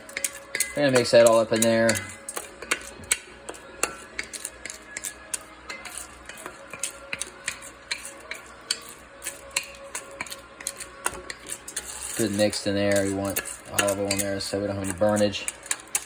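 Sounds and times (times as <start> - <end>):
spoon stirring popcorn kernels: 0.0 - 16.0.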